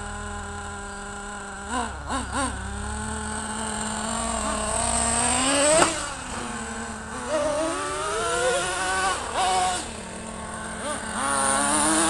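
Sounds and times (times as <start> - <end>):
nitro engine idling: 0.0 - 12.0
nitro engine revving: 0.0 - 12.0.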